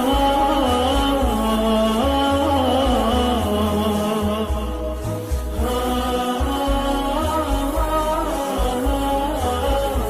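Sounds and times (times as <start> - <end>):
low pulsing bass: 0.0 - 10.0
wordless vocal chant: 0.0 - 10.0.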